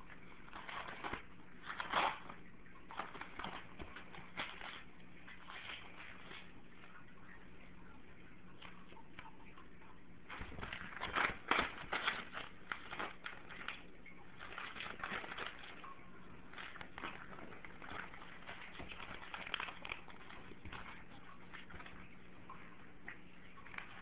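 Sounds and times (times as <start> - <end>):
paper rustling and crinkling: 0.1 - 7.0, 10.3 - 24.0.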